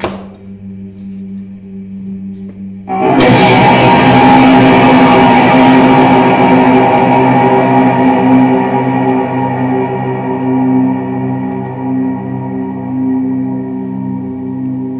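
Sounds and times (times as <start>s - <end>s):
distorted electric guitar: 0.4s - 14.9s
electric guitar drone: 0.4s - 14.9s.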